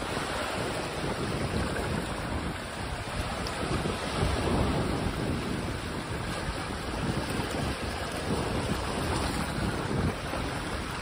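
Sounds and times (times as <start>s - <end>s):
small waves splashing on rocks: 0.0s - 11.0s
wind buffeting microphone: 0.0s - 11.0s.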